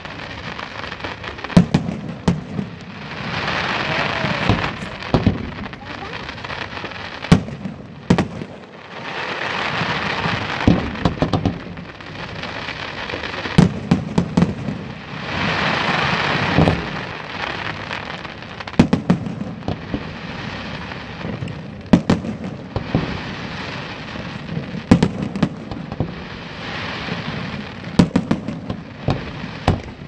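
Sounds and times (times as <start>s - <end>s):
fireworks crackling hiss: 0.0s - 30.0s.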